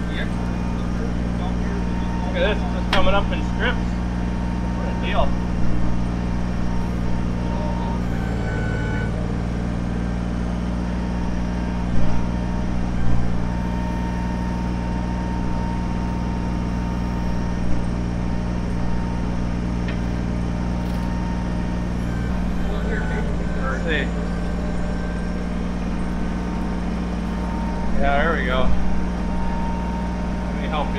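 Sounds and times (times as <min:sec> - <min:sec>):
thin steady whine: 0:00.0 - 0:30.9
tractor diesel engine running: 0:00.0 - 0:30.9.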